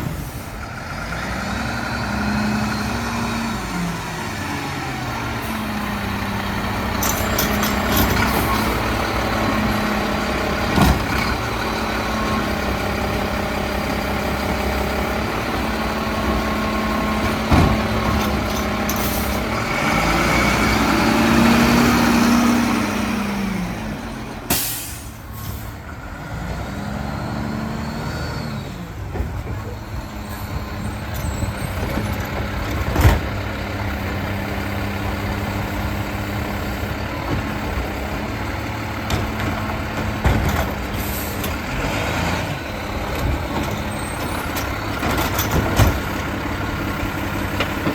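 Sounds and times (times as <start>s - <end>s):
diesel engine revving: 0.0s - 47.9s.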